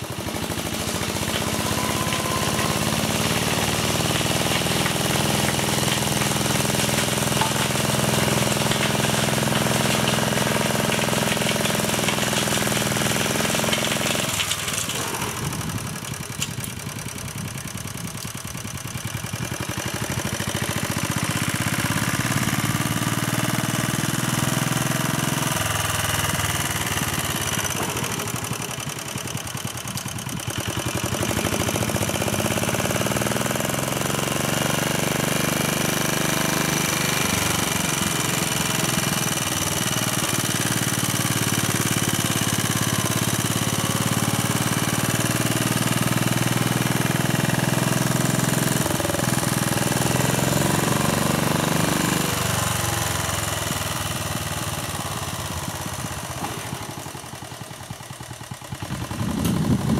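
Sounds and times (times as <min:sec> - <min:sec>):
tractor engine knocking: 0:00.0 - 0:59.9.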